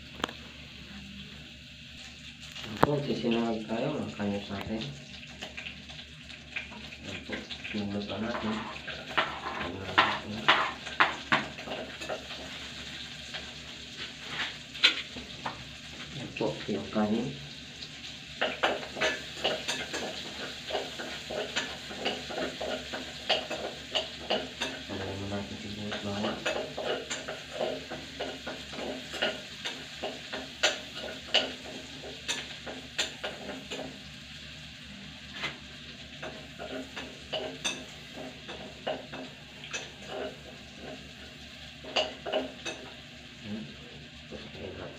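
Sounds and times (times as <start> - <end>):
light sizzle: 0.0 - 44.9.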